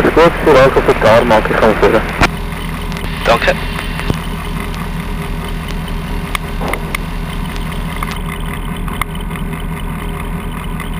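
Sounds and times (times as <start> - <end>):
aircraft engine running: 0.0 - 10.9.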